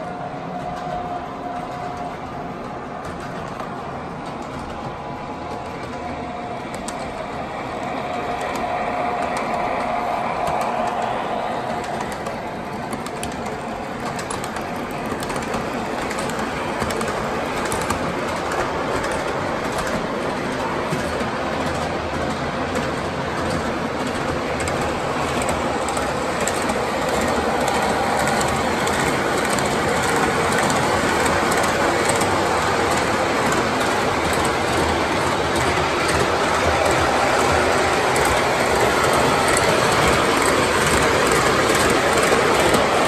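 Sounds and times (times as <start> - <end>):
model train rumble: 0.0 - 43.0.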